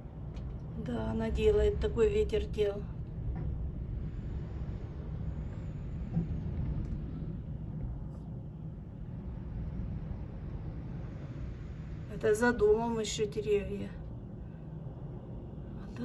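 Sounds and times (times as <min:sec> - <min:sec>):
strong storm wind: 0:00.0 - 0:16.0.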